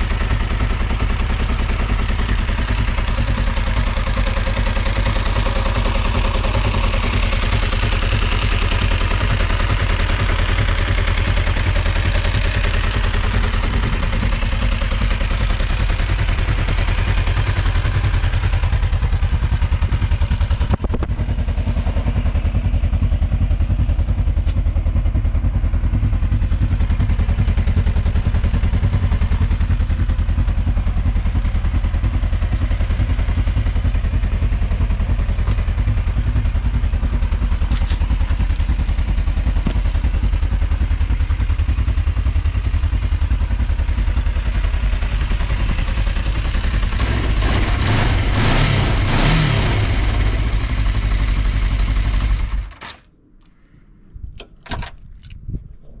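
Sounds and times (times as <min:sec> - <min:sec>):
motorcycle engine idling: 0:00.0 - 0:52.8.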